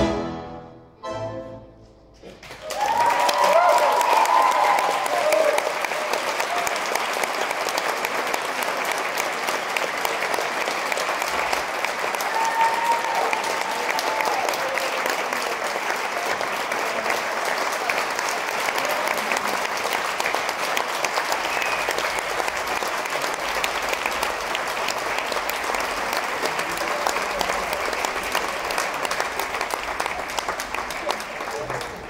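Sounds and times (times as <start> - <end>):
audience applause: 2.2 - 32.0.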